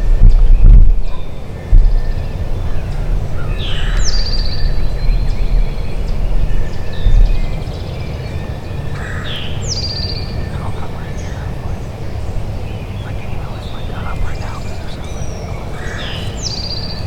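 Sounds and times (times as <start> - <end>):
songbird singing: 0.0 - 17.0
steady low rumble: 0.0 - 17.0.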